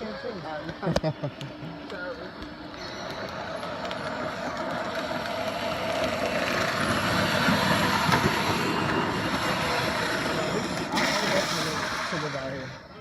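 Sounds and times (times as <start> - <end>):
toy vehicle wheels and motor rumbling: 0.0 - 13.0.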